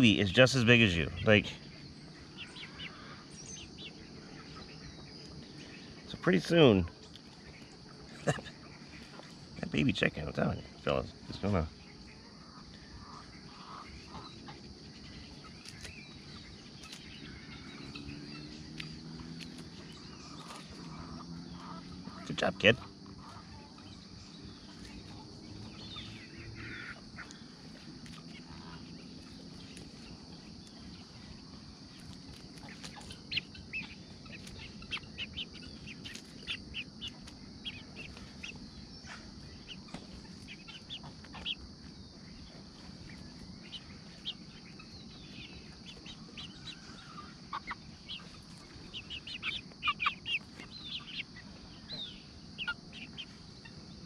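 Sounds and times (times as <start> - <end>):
chickens pecking and calling: 0.0 - 54.0
hens clucking: 0.0 - 54.0.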